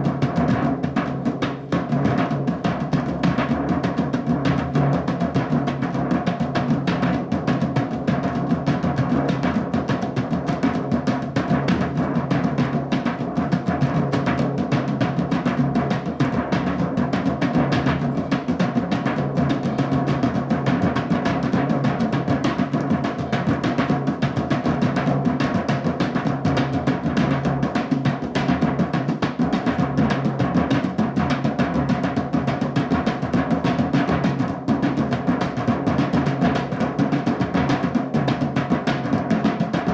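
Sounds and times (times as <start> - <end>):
fast drumming: 0.0 - 39.9.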